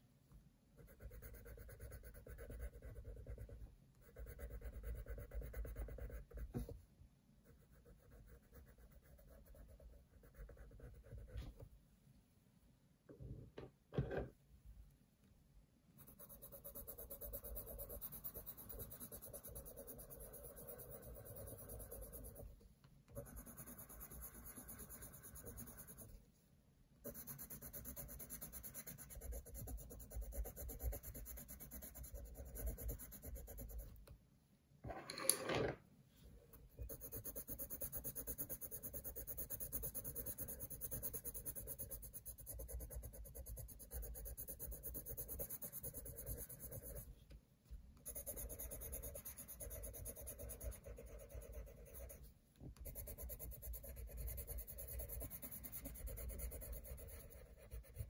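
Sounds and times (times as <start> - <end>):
pencil scratching on paper: 0.8 - 6.8, 7.4 - 11.6, 16.0 - 22.5, 23.1 - 26.2, 27.0 - 34.0, 36.8 - 47.2, 48.0 - 58.0.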